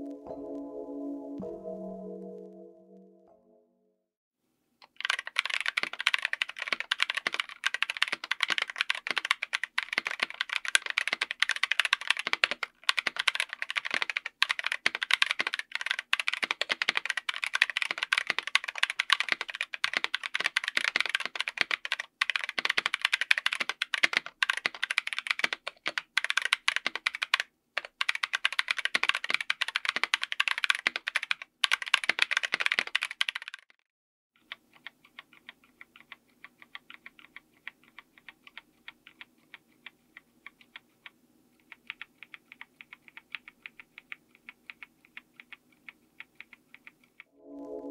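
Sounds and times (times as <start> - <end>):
fast mechanical keyboard typing: 4.8 - 33.8, 34.4 - 47.2.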